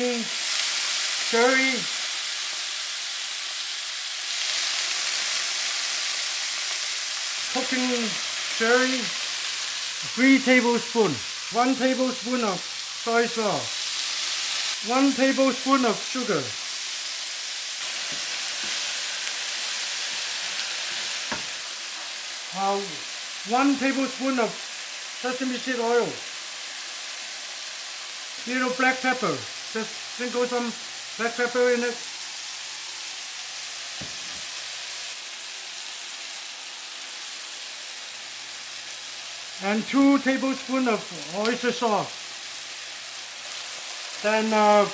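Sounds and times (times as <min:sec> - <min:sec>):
vegetables sizzling in a frying pan: 0:00.0 - 0:44.9.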